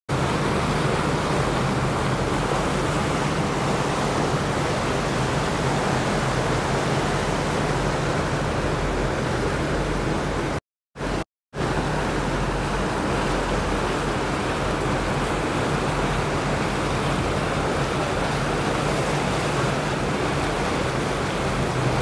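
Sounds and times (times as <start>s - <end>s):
boat engine hum: 0.1s - 22.0s
wind and water rushing: 0.1s - 22.0s.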